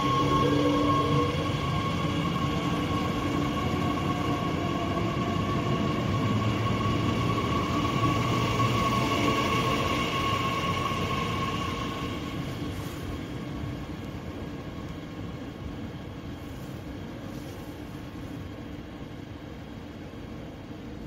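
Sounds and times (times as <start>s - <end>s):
train rolling rumble: 0.0s - 21.0s
train whine: 0.0s - 21.0s.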